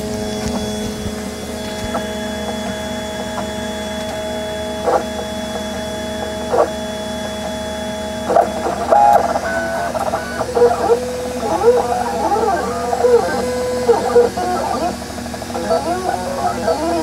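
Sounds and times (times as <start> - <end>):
printer stepper motors whining: 0.0 - 17.0.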